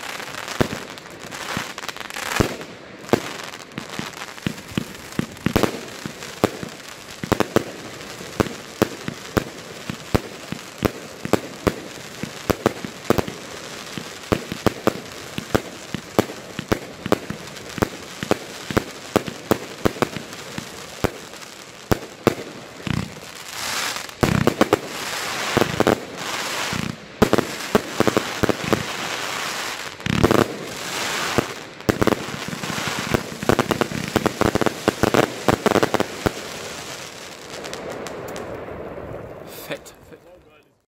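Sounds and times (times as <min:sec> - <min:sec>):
firework shots and bursts: 0:00.0 - 0:39.8
dense firework crackling: 0:00.0 - 0:40.8.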